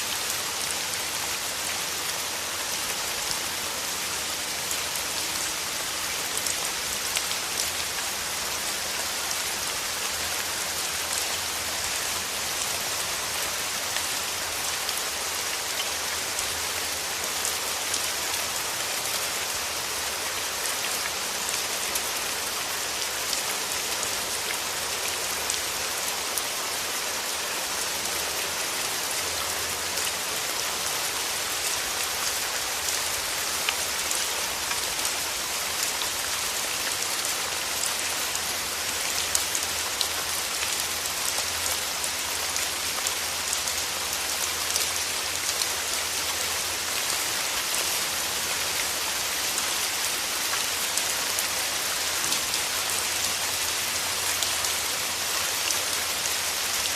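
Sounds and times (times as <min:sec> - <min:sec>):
rain falling through trees: 0:00.0 - 0:56.9.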